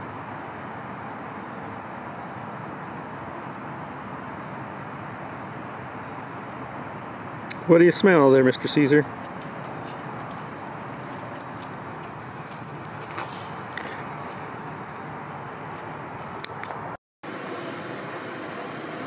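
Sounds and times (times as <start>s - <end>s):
cricket chorus: 0.0s - 17.0s.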